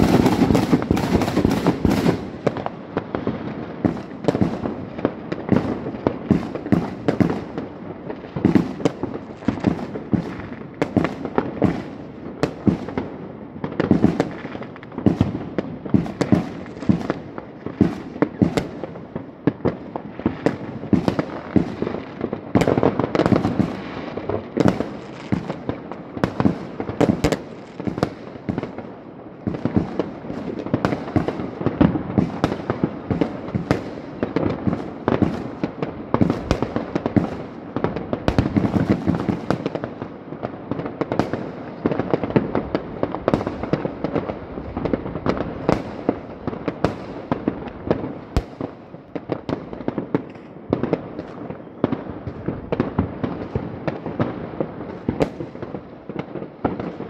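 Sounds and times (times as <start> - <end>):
fireworks bangs and crackling pops: 0.0 - 57.0.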